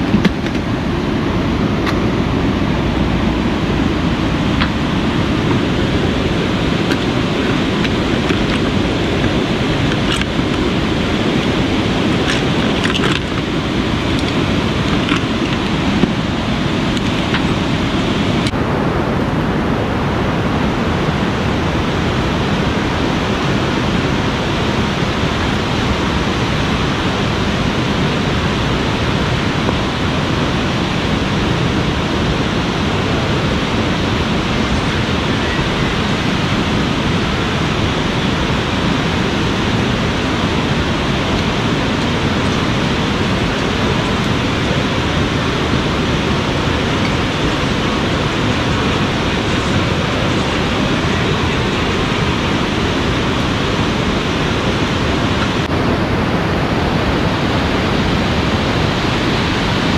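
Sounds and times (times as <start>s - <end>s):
falling rain: 0.0s - 59.9s
fast-flowing river rushing: 0.0s - 59.9s.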